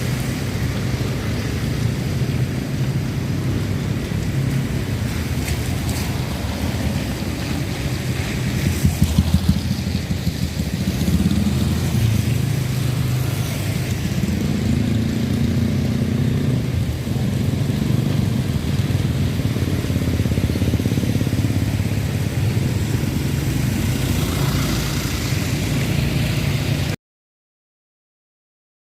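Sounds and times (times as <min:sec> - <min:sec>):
traffic engines passing: 0:00.0 - 0:27.0.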